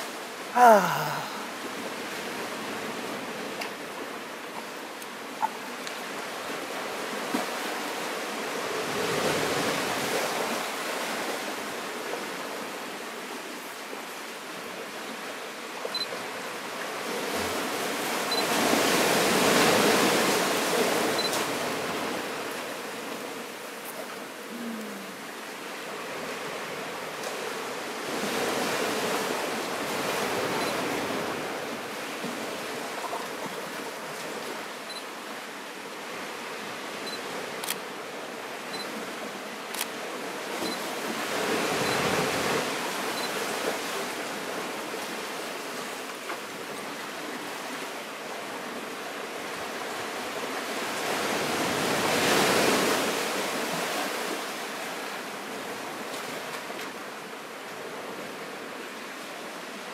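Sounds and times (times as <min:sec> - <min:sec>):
small waves breaking on sand: 0:00.0 - 0:59.9.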